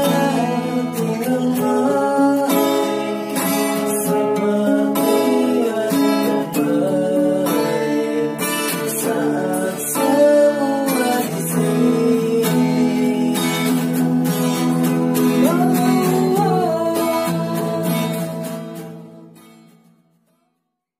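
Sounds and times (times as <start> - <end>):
acoustic guitars playing: 0.0 - 20.7.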